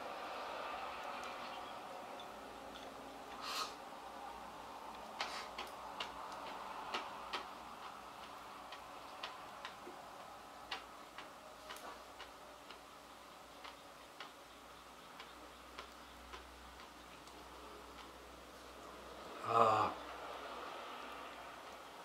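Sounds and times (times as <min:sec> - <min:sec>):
faint steady hiss: 0:00.0 - 0:22.0
wood fire crackling: 0:00.0 - 0:22.0.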